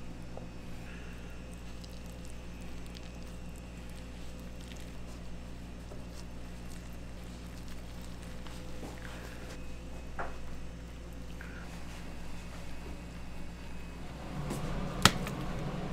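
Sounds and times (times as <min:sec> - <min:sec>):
low machine hum: 0:00.0 - 0:15.9.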